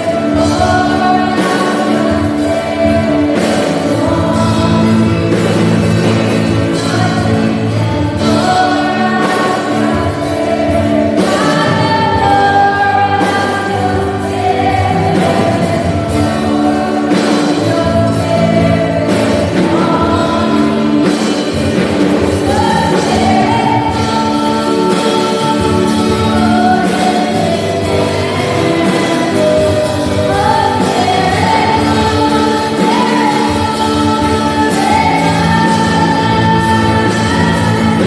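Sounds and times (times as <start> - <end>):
group singing gospel song: 0.0 - 38.0
instrumental accompaniment: 0.0 - 38.0.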